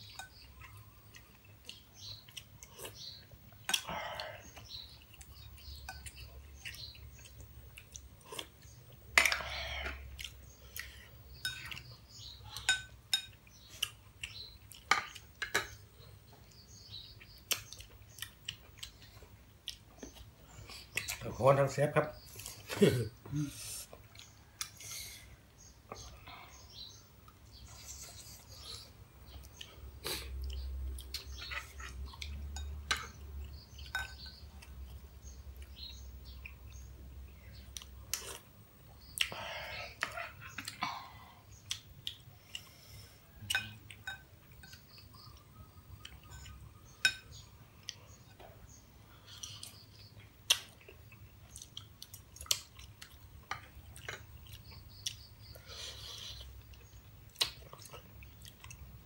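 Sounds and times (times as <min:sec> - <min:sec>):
people chewing: 0:00.0 - 0:21.4, 0:22.2 - 0:59.0.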